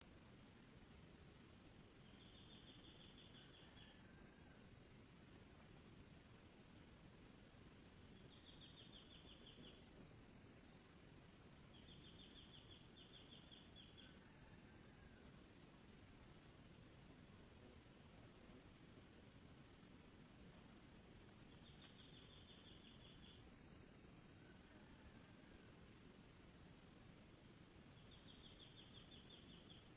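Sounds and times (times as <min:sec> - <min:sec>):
high-pitched insect chorus: 0:00.1 - 0:29.9
short rapid insect trills: 0:00.1 - 0:29.9.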